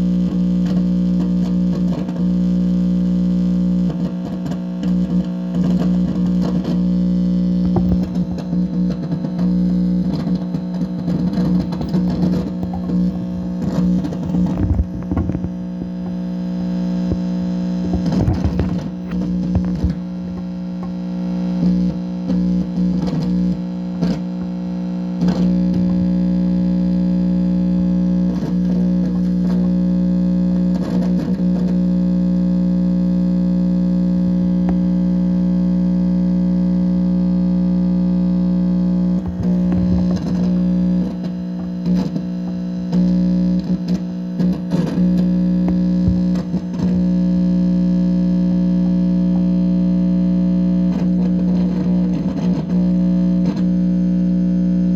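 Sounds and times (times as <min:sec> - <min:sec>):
amplifier hum with buzz: 0:00.0 - 0:54.9
crackling interference: 0:00.0 - 0:54.9.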